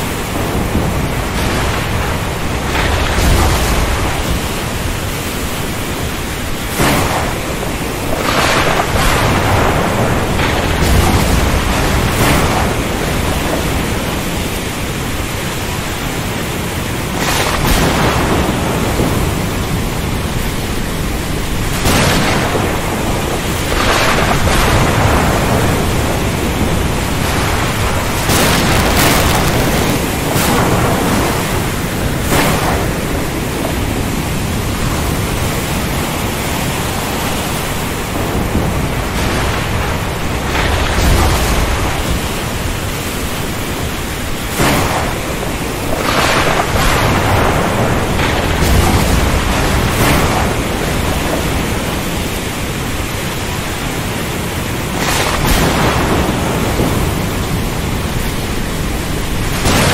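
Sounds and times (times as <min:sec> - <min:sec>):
thunder cracks: 0:00.0 - 0:53.8, 0:54.8 - 0:59.9
deep thunder rumble: 0:00.0 - 0:59.9
rain: 0:00.0 - 0:59.9
sea: 0:00.0 - 0:59.9
wind: 0:00.0 - 0:59.9.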